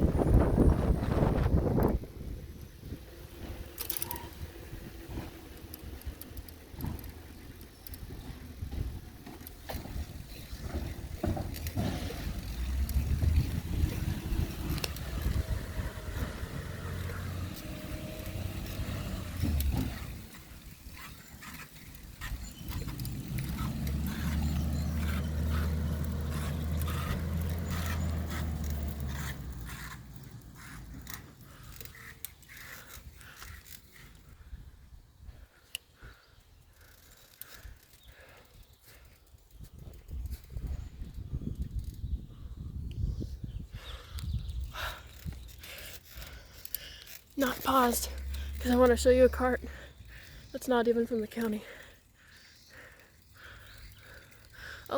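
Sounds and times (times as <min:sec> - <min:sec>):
bicycle rumble and rattling: 0:00.0 - 0:54.9.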